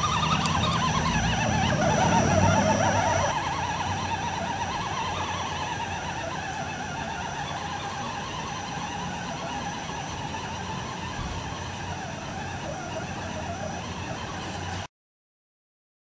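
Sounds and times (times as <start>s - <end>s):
toy truck electric motor whining: 0.0s - 14.9s.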